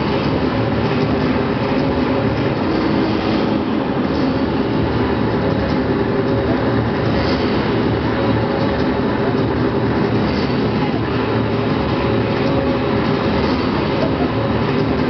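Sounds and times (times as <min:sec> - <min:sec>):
crowded sports arena din: 0:00.0 - 0:15.0.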